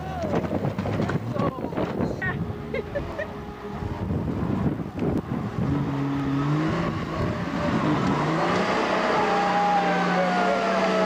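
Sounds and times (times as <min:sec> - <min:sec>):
engine running under load: 0:00.0 - 0:11.0.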